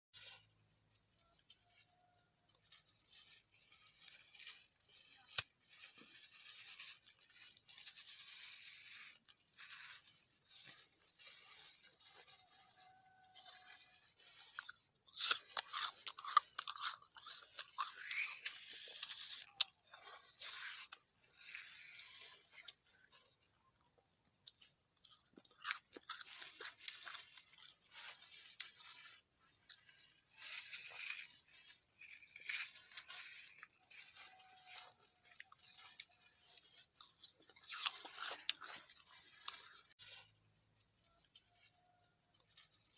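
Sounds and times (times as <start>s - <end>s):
spoon scraping crisp fruit: 0.2s - 42.9s.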